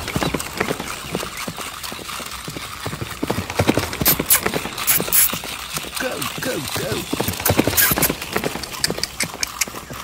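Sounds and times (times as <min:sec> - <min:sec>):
toy horse hoofbeats: 0:00.0 - 0:10.0.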